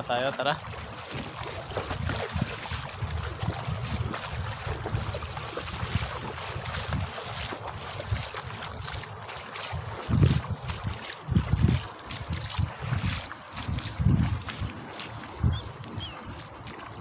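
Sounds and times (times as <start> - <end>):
moving water: 0.0 - 17.0
wind buffeting microphone: 0.6 - 17.0.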